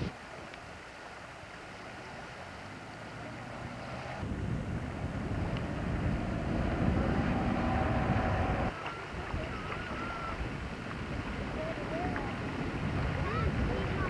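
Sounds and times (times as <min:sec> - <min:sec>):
distant speedboat engine droning: 0:01.6 - 0:14.0
wind buffeting microphone: 0:02.7 - 0:14.0.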